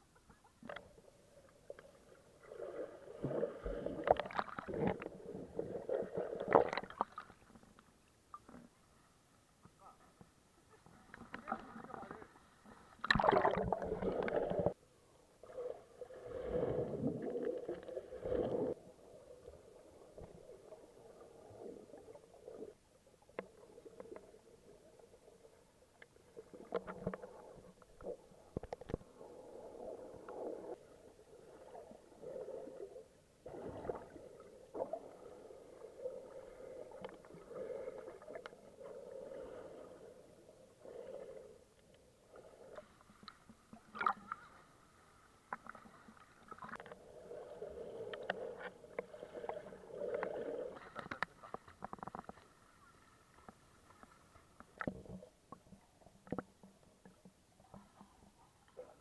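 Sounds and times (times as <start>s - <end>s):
muffled water sloshing and gurgling: 0.0s - 59.0s.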